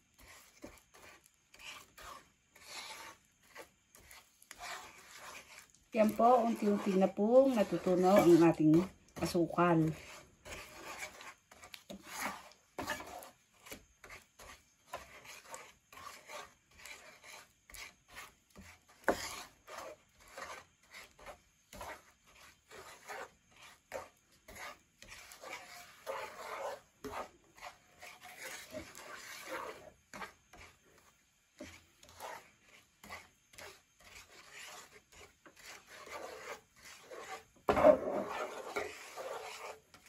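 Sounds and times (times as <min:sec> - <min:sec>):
wooden spatula scraping sugar in pan: 0:00.0 - 0:40.0.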